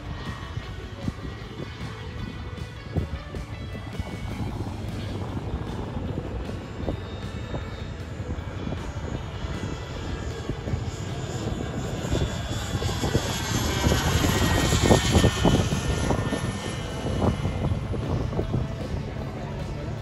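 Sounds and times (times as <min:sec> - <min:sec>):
low rumble: 0:00.0 - 0:20.0
model plane turbine whine: 0:00.0 - 0:20.0.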